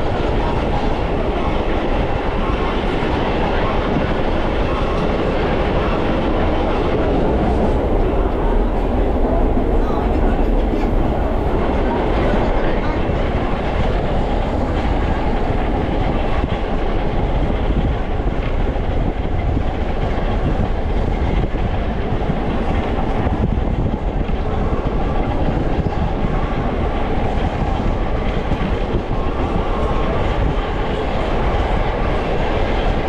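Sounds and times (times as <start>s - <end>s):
subway car wheels rumbling: 0.0s - 33.0s.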